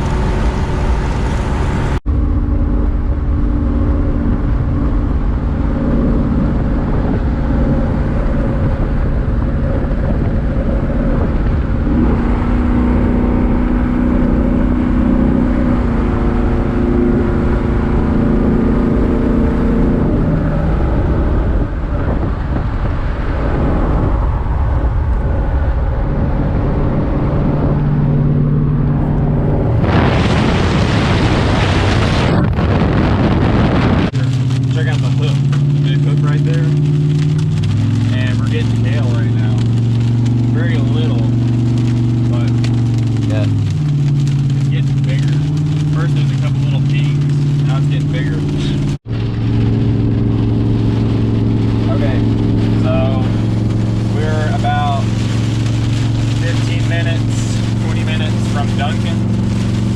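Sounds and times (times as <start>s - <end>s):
road noise: 0.0s - 59.9s
vehicle engine hum: 0.0s - 59.9s.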